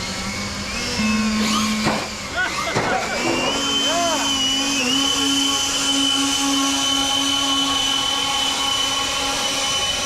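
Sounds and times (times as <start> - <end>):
small motor whining: 0.0 - 10.0.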